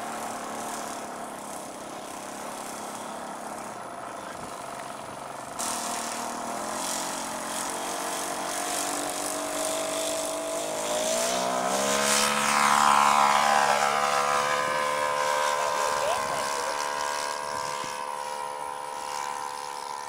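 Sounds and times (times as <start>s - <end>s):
model airplane engine passing: 0.0s - 20.0s.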